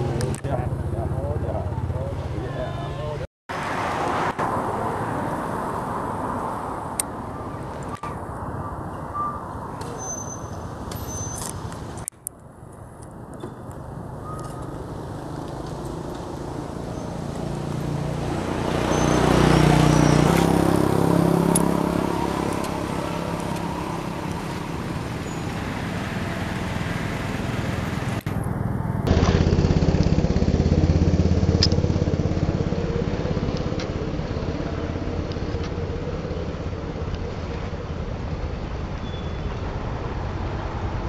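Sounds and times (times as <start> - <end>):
traffic engines humming: 0.0 - 41.0.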